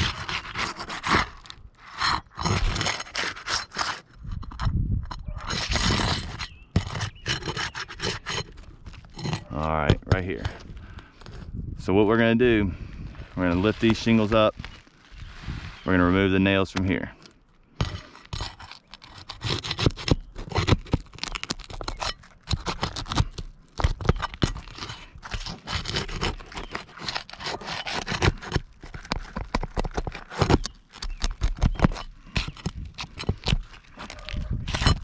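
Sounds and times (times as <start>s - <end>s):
roof shingles scraping and tearing: 0.0s - 4.3s, 5.3s - 11.4s, 13.2s - 35.0s.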